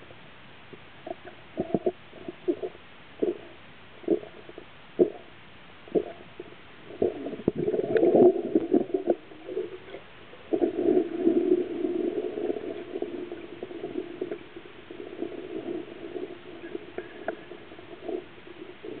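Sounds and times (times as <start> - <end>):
underwater bubbling gurgle: 1.0 - 19.0.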